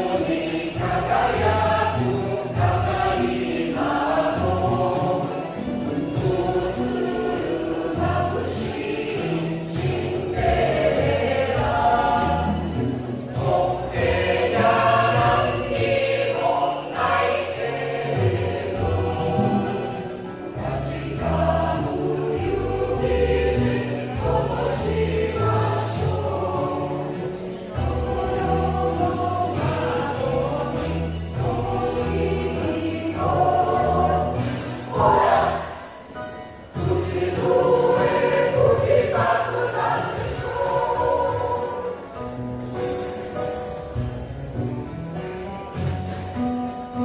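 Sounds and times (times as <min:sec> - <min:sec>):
mixed choir singing: 0:00.0 - 0:43.4.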